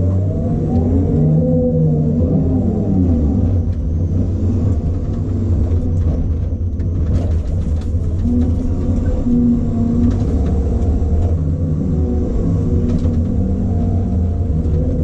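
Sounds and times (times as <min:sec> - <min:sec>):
diesel engine and hydraulics droning: 0:00.0 - 0:15.0.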